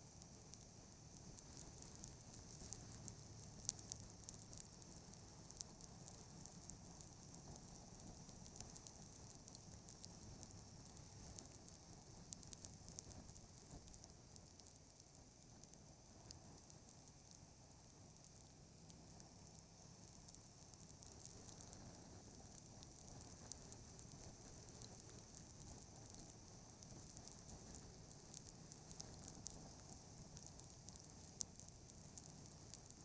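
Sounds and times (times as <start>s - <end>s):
faint steady hiss: 0.0s - 33.0s
soft crackles: 0.0s - 33.0s.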